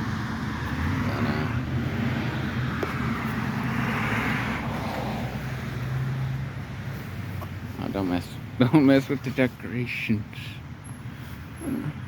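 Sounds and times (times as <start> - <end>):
car passing with tyre noise: 0.0 - 11.8
steady low traffic hum: 0.0 - 12.0.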